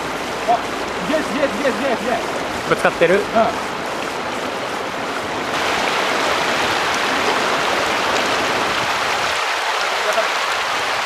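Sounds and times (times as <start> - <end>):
water rushing over stones: 0.0 - 11.0.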